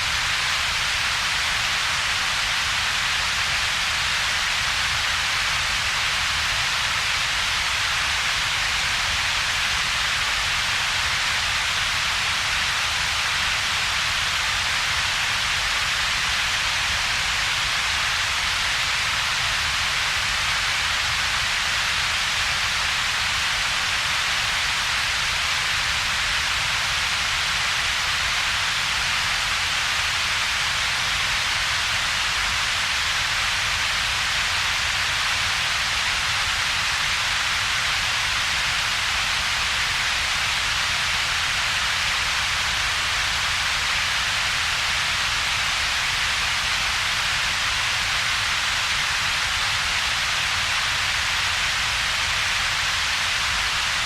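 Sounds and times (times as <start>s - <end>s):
broad synthetic hiss: 0.0s - 54.0s.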